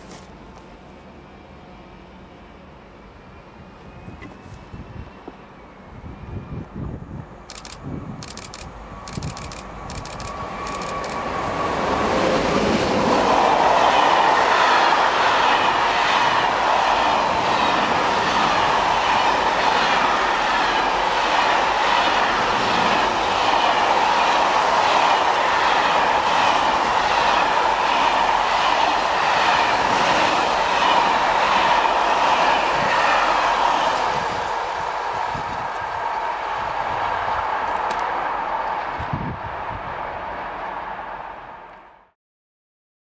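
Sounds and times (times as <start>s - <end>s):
freight train passing: 0.0s - 42.2s.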